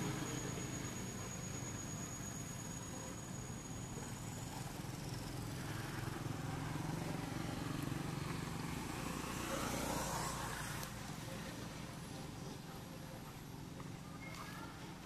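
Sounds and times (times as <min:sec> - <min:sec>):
vehicle engine running: 0:00.0 - 0:14.2.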